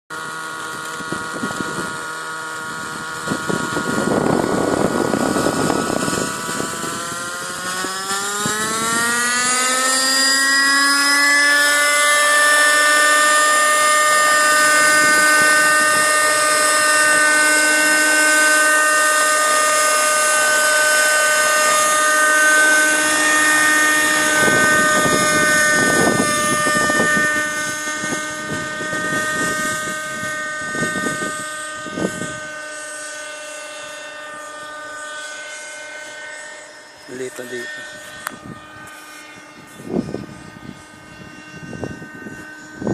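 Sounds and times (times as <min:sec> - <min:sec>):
model helicopter engine whine: 0:00.1 - 0:42.9.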